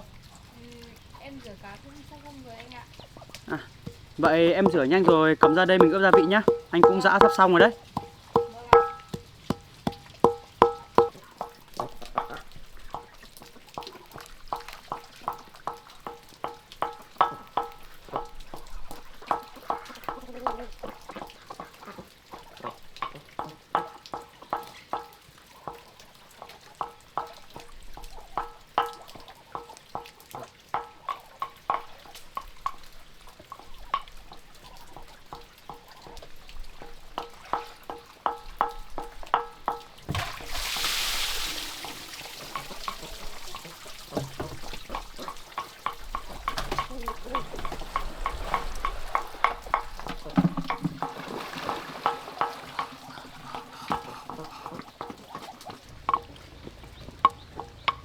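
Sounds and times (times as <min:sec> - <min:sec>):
pestle pounding in a mortar: 0:03.5 - 0:40.3, 0:41.9 - 0:56.4.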